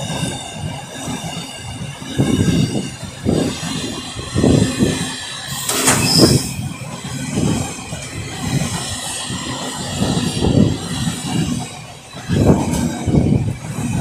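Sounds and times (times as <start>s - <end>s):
high wheel squeal: 0.0s - 14.0s
train wheels clattering: 0.0s - 14.0s.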